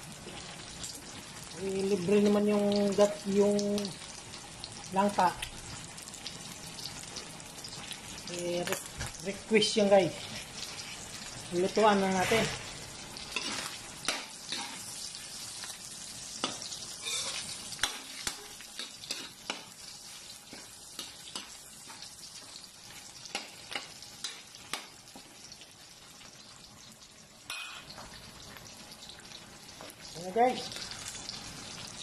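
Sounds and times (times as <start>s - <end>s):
fat sizzling in hot oil: 0.0s - 32.0s.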